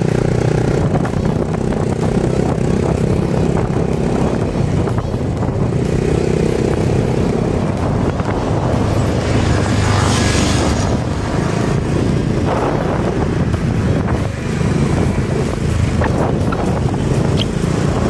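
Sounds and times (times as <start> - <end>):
motor scooter engine hum: 0.0 - 18.0
tyre noise: 0.0 - 18.0
wind noise: 0.0 - 18.0.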